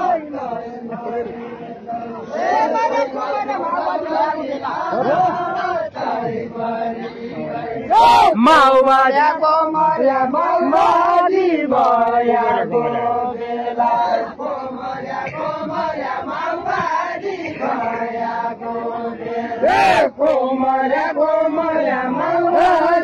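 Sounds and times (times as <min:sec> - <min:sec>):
crowd chanting in unison: 0:00.0 - 0:23.0.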